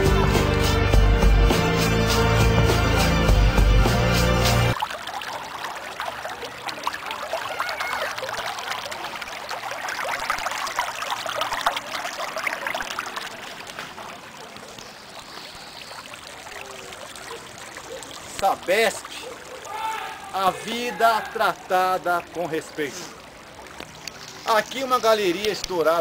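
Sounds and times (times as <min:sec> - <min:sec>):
sewage bubbling and splashing: 0:04.7 - 0:26.0.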